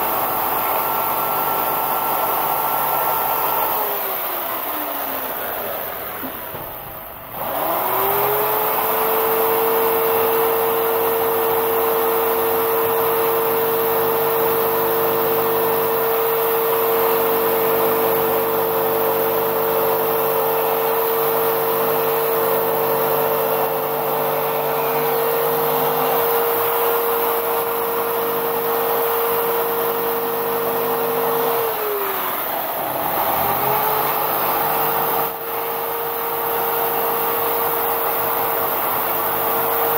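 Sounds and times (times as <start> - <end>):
electric jigsaw cutting foam board: 0.0 - 39.9.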